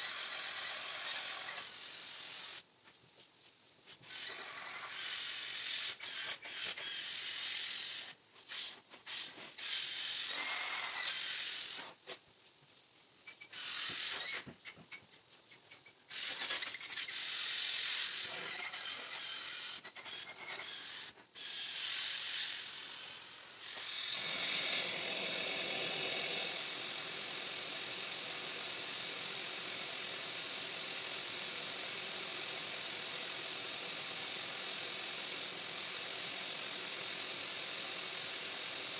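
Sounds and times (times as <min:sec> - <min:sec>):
vacuum hose whistling squeal: 0:00.0 - 0:02.7, 0:04.0 - 0:12.0, 0:13.3 - 0:14.8, 0:16.1 - 0:38.9.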